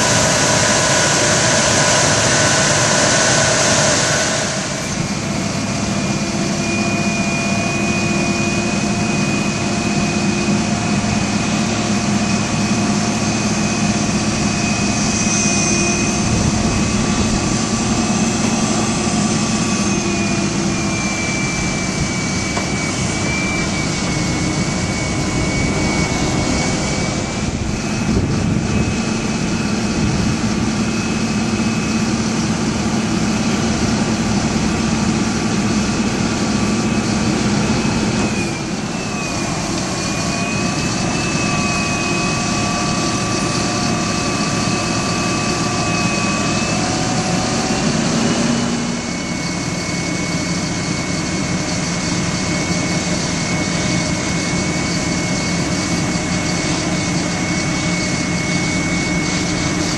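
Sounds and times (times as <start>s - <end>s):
hydraulic whine: 0.0s - 59.9s
truck engine running under load: 0.0s - 59.9s.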